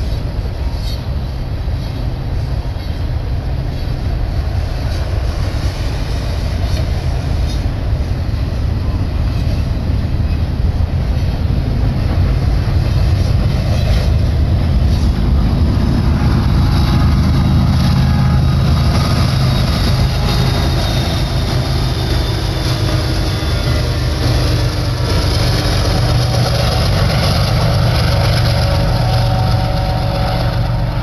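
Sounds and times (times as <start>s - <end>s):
diesel locomotive engine drone: 0.0s - 31.0s
steel train wheels rumbling on rail: 0.0s - 31.0s.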